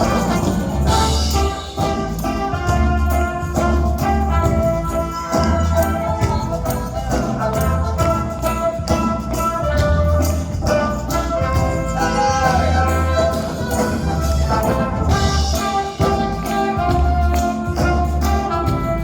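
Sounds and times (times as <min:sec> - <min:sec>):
live band with brass: 0:00.0 - 0:19.0
pulsing bass line: 0:00.0 - 0:19.0
tambourine: 0:00.0 - 0:19.0.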